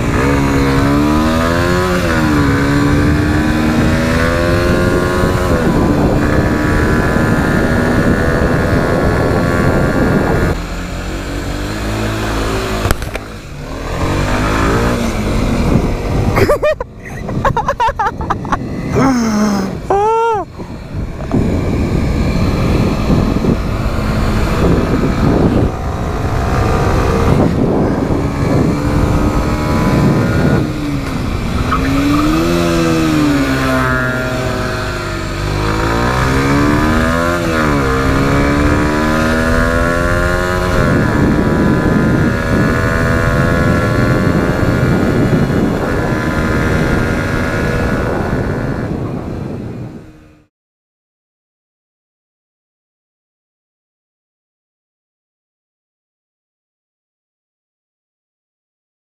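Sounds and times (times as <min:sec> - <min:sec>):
motorcycle engine revving: 0:00.0 - 0:50.5
wind and road noise: 0:00.0 - 0:50.5.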